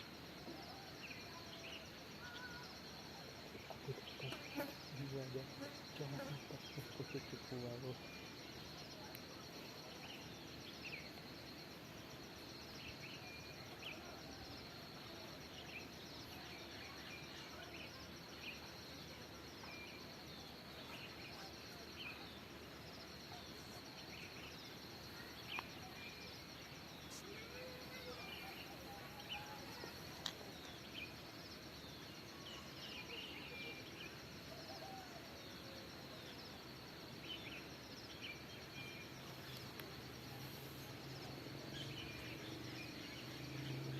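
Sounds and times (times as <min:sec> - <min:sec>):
insect trill: 0:00.0 - 0:43.9.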